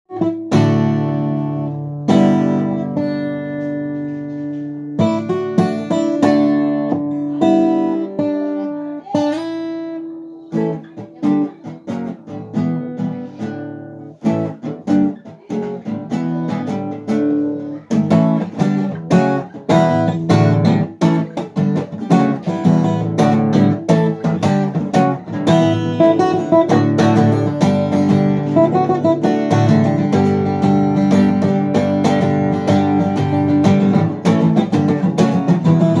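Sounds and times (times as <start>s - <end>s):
acoustic guitar: 0.1s - 36.0s.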